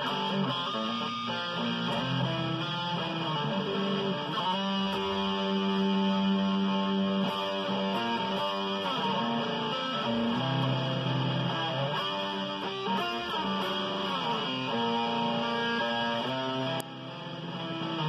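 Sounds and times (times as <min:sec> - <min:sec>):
electric guitar riff: 0:00.0 - 0:18.0.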